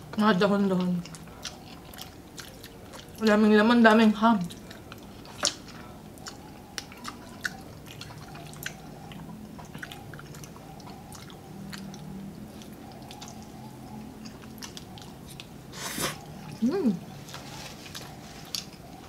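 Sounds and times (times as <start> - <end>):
faint steady hum: 0.0 - 19.0
people chewing and slurping: 0.0 - 19.0.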